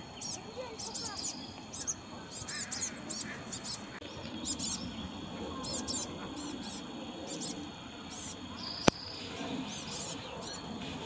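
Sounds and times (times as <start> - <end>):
songbirds high thin calls: 0.0 - 11.0.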